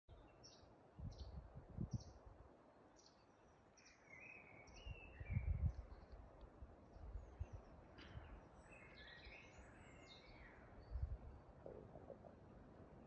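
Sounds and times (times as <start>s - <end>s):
songbirds chirping: 0.1s - 13.0s.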